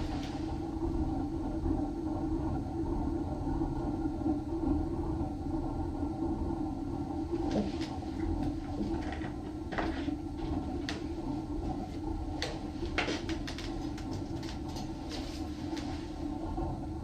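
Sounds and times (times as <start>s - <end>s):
stove burning rumble: 0.0s - 17.0s.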